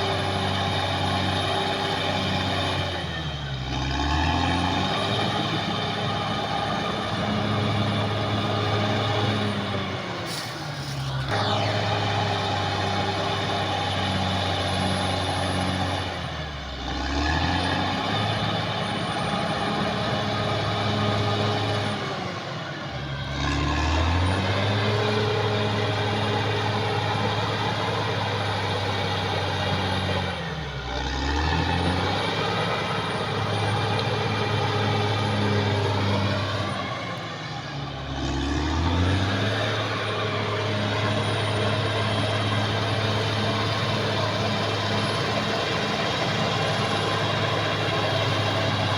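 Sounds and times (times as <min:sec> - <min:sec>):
bulldozer diesel engine revving: 0:00.0 - 0:48.9.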